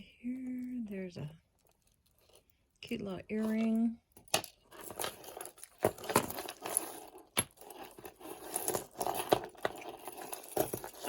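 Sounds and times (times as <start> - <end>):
jewelry clinking and rattling: 0.0 - 11.0.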